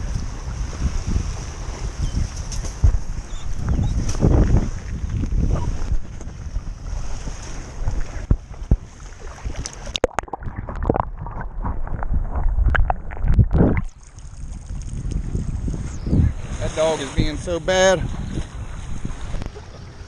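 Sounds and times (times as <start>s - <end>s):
waves lapping: 0.0s - 20.0s
wind buffeting microphone: 0.0s - 20.0s
underwater sloshing: 1.3s - 20.0s.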